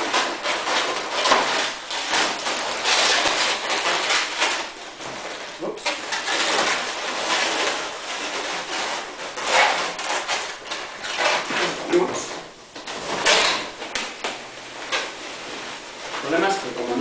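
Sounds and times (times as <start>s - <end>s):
balloons rubbing and squeaking: 0.0s - 17.0s.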